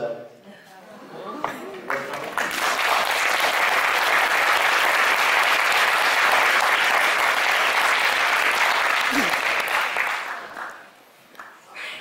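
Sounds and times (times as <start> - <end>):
audience applauding: 1.4 - 11.6.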